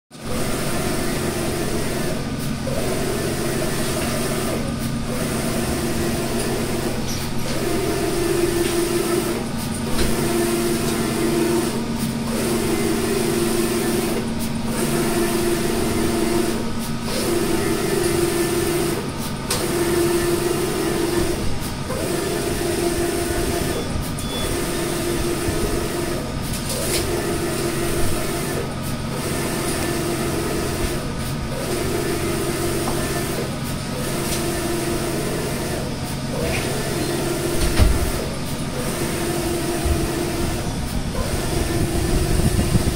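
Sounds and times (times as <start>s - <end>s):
machine hum: 0.1s - 42.9s.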